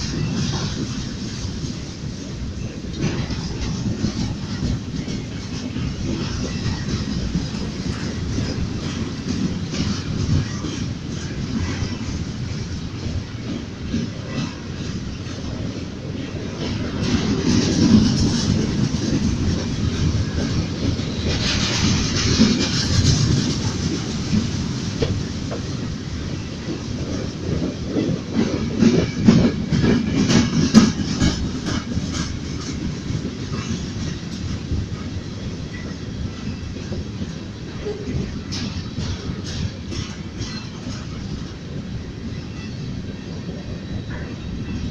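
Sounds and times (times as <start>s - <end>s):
freight train rumble: 0.0s - 44.9s
wheels clacking over rail joints: 0.0s - 44.9s.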